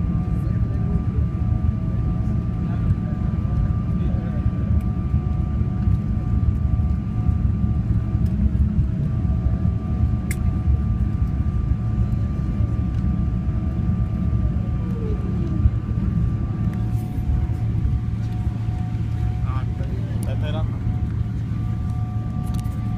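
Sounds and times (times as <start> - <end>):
jet engines rumbling and whining: 0.0 - 22.9.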